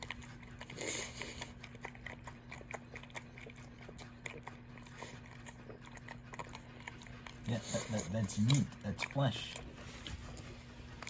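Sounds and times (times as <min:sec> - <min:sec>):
dog chewing food: 0:00.0 - 0:11.0
steady low hum: 0:00.0 - 0:11.0.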